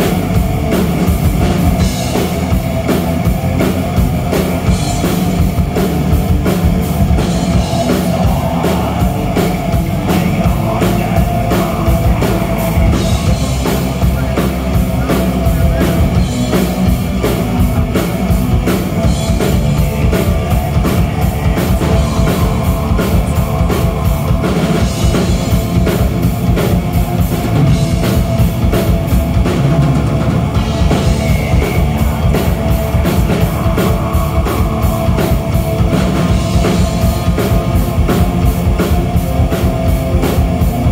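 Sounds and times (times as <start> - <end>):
distorted electric guitars and bass: 0.0 - 40.9
fast drumming: 0.0 - 40.9.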